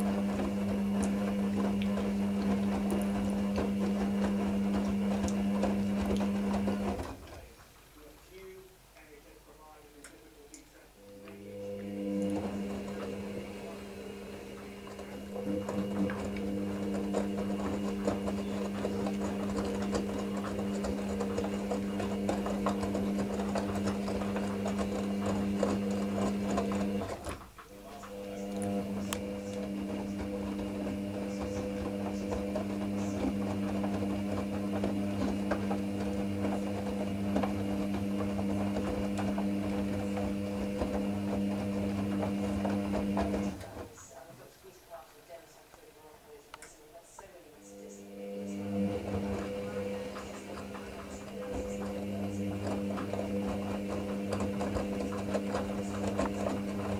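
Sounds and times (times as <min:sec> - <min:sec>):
patter of tumbling wet laundry: 0:00.0 - 0:08.4, 0:09.9 - 0:47.4, 0:48.0 - 0:56.9
washing machine motor hum: 0:00.0 - 0:56.9.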